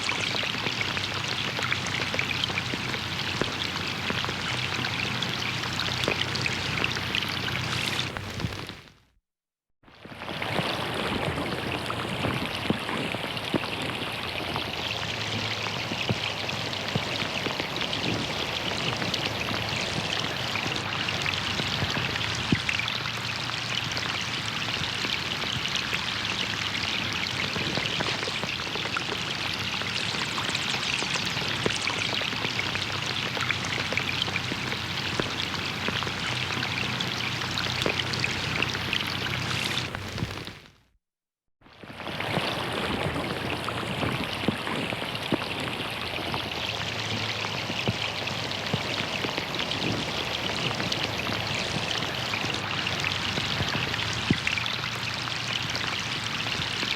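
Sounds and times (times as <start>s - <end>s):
rain hissing on pond: 0.0s - 9.0s, 9.9s - 40.8s, 41.7s - 56.9s.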